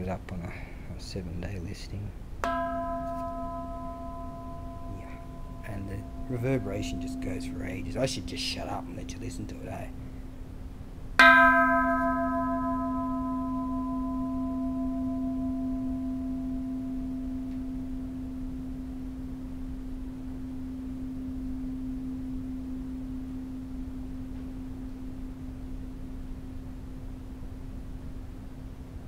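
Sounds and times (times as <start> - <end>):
temple bell ringing: 2.4 - 10.4, 11.2 - 27.4.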